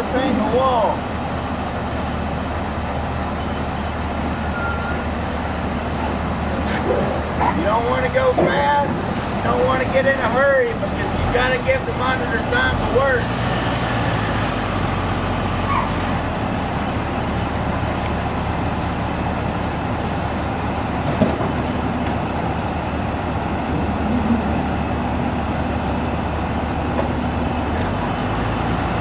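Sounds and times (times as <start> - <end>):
heavy vehicle engine idling: 0.0 - 29.0.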